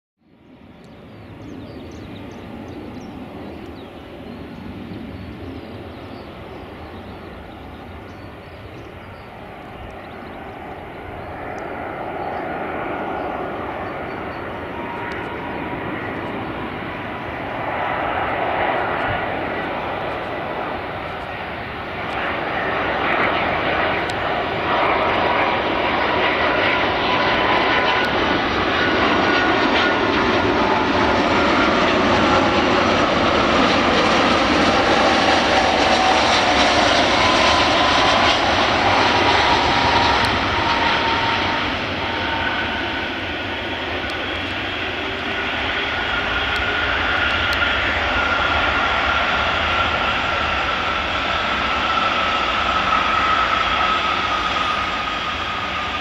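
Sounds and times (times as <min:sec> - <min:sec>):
faint jet engine whine: 0:00.2 - 0:56.0
jet airliner engines rushing: 0:00.2 - 0:56.0.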